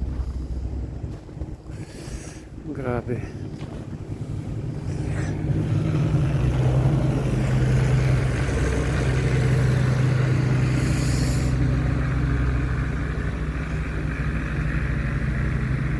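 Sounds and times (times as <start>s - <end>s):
vehicle engine humming: 0.0s - 15.9s.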